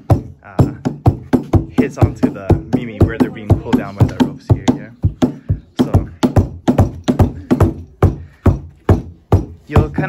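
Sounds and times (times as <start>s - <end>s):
mallet pounding drum head: 0.0s - 10.0s.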